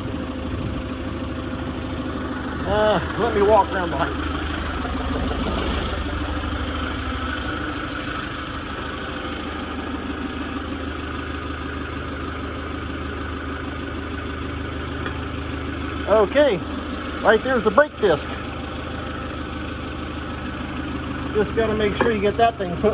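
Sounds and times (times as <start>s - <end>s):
forklift engine idling: 0.0s - 22.9s.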